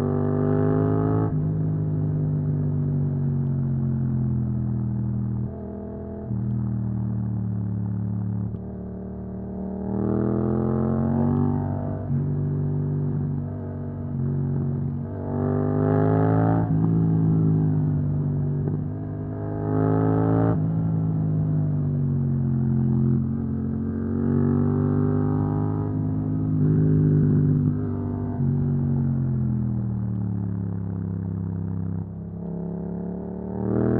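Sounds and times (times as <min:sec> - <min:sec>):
motorcycle engine accelerating: 0:02.1 - 0:33.9.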